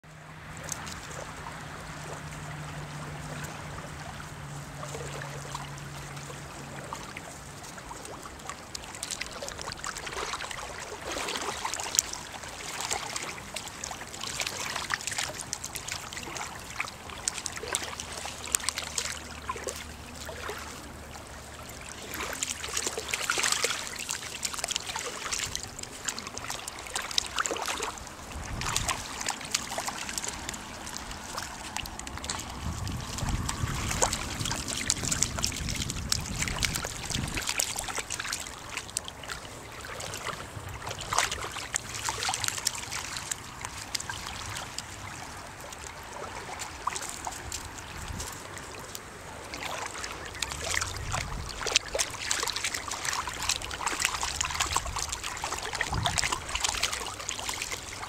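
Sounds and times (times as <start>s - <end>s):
small waves lapping on sand: 0.0s - 58.0s
paws splashing in water: 0.1s - 58.0s.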